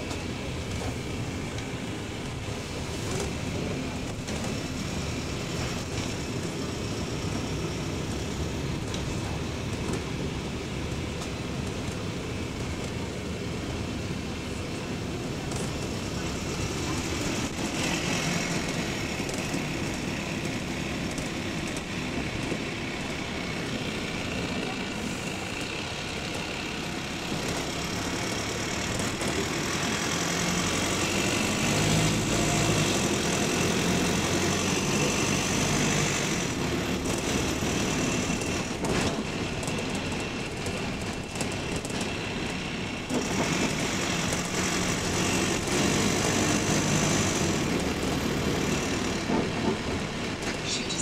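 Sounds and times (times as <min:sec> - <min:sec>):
bus diesel engine running: 0:00.0 - 0:51.0
engine clickety-clack: 0:00.0 - 0:51.0.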